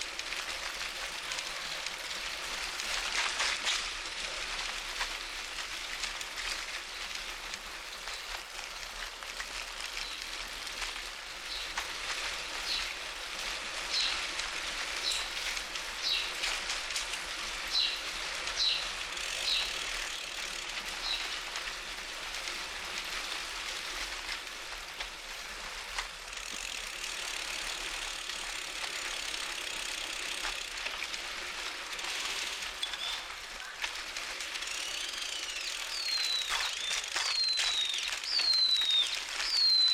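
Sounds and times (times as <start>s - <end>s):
bicycle tyres hissing: 0.0s - 39.9s.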